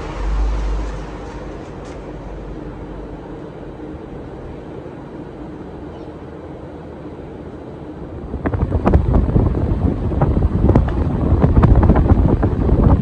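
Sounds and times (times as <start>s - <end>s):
ceiling fan whoosh: 0.0s - 13.0s
wind buffeting microphone: 0.0s - 13.0s.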